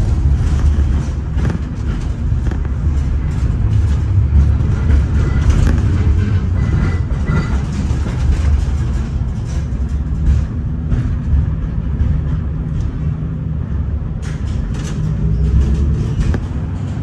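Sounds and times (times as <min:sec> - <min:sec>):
tram rumbling along rails: 0:00.0 - 0:17.0
wheels clicking over track joints: 0:00.0 - 0:17.0.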